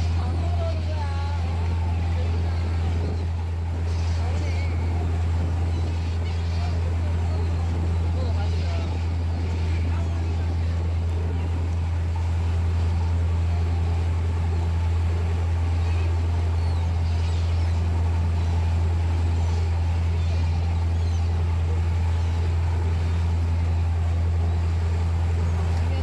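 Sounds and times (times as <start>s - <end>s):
boat engine droning: 0.0s - 26.0s
rushing wake water: 0.0s - 26.0s.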